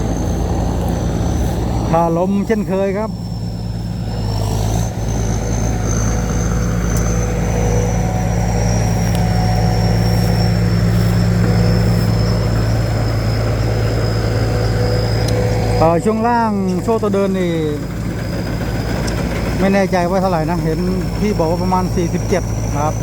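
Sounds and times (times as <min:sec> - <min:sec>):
combine harvester engine droning: 0:00.0 - 0:23.0.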